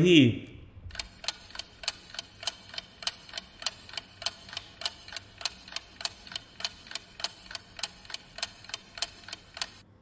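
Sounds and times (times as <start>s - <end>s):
clock ticking: 0.9s - 9.8s.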